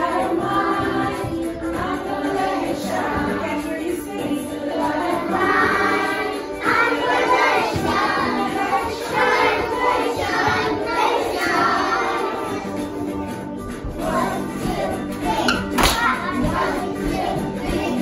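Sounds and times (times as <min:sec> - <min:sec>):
music backing track: 0:00.0 - 0:18.0
young children singing: 0:00.0 - 0:18.0.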